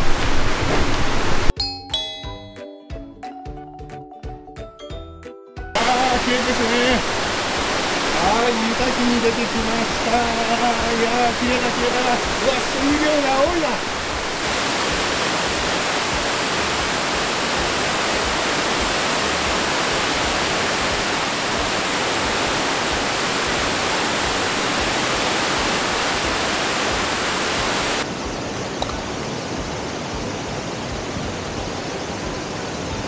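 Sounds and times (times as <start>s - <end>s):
waterfall roaring: 0.0s - 1.5s, 5.8s - 33.0s.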